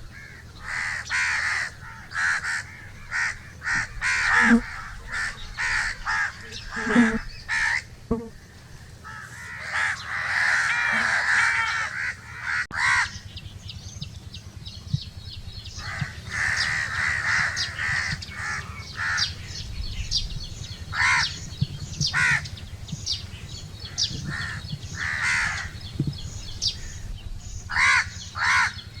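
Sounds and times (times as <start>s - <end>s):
crows cawing: 0.0s - 13.4s, 15.7s - 19.6s, 20.9s - 23.1s, 23.8s - 29.0s.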